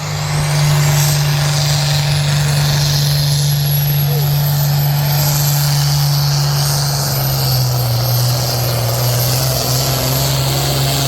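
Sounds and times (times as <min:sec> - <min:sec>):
engine running at high revs: 0:00.0 - 0:11.0
high whine: 0:00.0 - 0:11.0.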